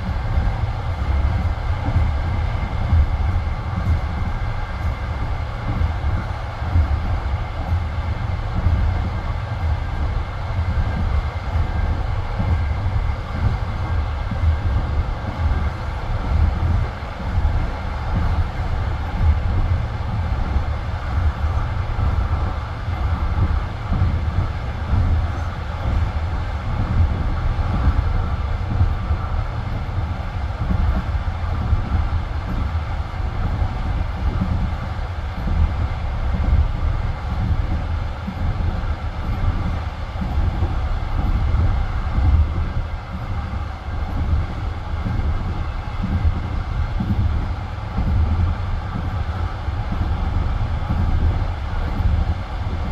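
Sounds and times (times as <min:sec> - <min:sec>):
train knocks and clatter: 0:00.0 - 0:52.9
train wheels rumbling on rails: 0:00.0 - 0:52.9.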